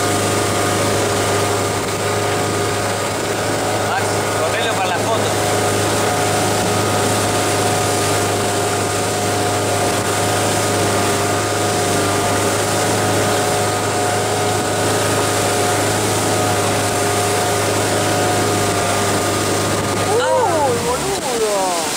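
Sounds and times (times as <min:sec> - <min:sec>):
boat engine droning: 0:00.0 - 0:21.9
rushing water: 0:00.0 - 0:21.9
wind: 0:00.0 - 0:21.9.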